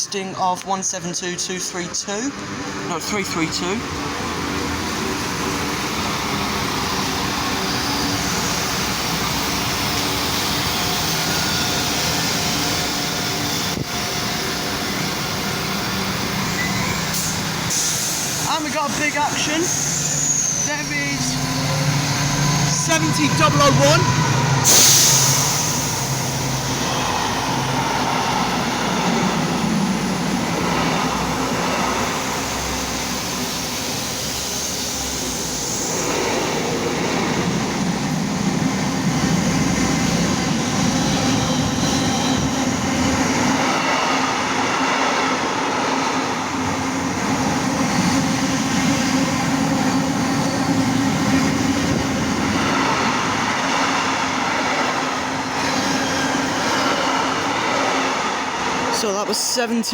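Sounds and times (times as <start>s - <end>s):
diesel locomotive engine: 0.0s - 59.9s
train wheels on rails: 0.2s - 59.9s.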